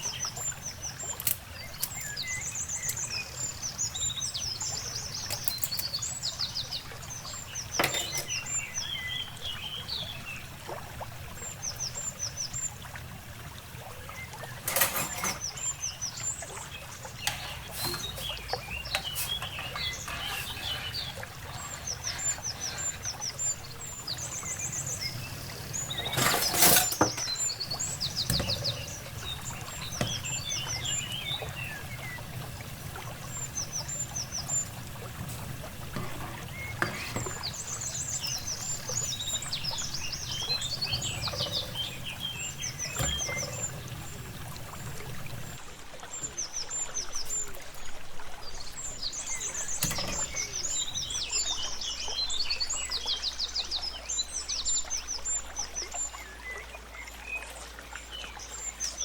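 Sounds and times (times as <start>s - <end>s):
small birds chirping: 0.0s - 13.1s, 13.8s - 45.6s, 48.4s - 56.8s.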